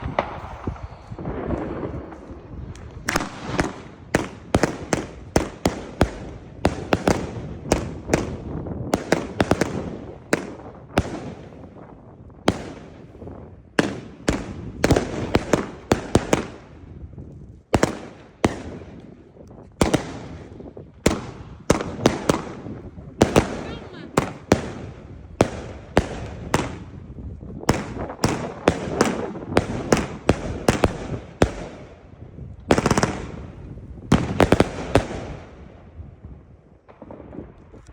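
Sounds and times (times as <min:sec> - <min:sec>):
firework bangs: 0:00.0 - 0:17.0, 0:17.7 - 0:37.9.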